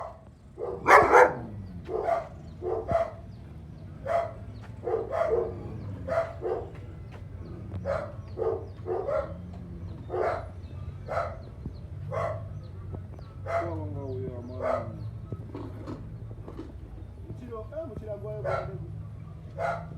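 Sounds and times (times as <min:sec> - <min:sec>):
dog barking: 0:00.0 - 0:03.4, 0:04.0 - 0:16.0, 0:18.4 - 0:19.9.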